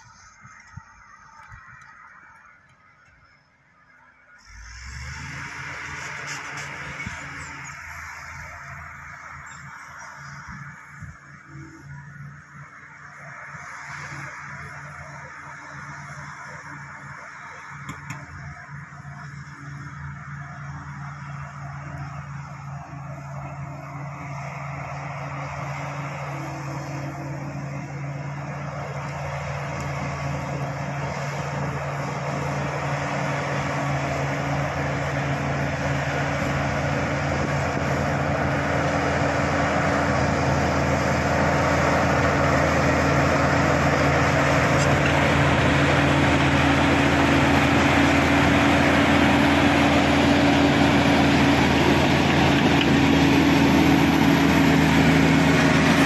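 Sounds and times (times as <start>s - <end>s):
bulldozer diesel engine: 0.0s - 56.0s.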